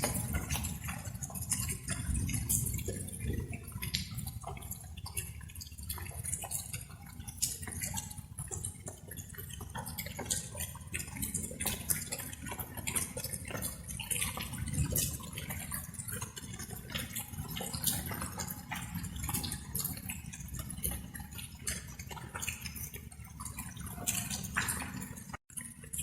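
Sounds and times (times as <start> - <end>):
raindrops dripping: 0.0 - 26.0.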